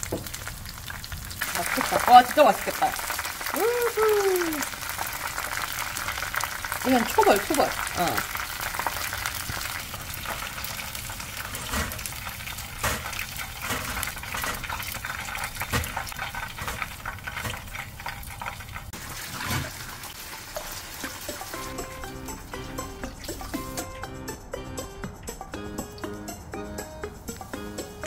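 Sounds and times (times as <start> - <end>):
food deep-frying in oil: 0.0 - 23.6
oil popping: 0.0 - 23.6.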